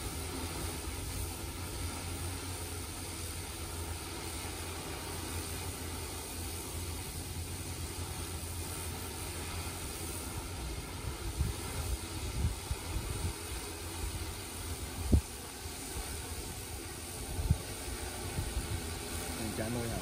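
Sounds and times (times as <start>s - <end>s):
drone rotors humming: 0.0s - 20.0s.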